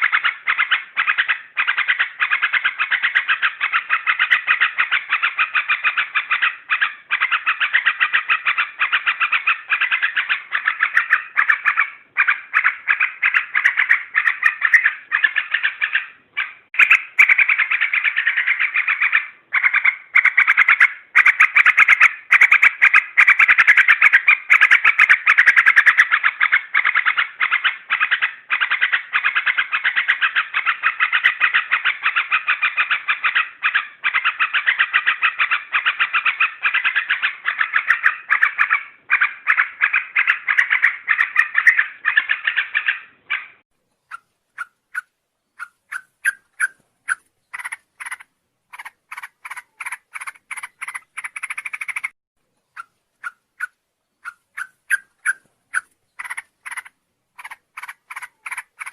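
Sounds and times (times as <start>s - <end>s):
bulbuls chattering rapidly: 0.0s - 58.9s.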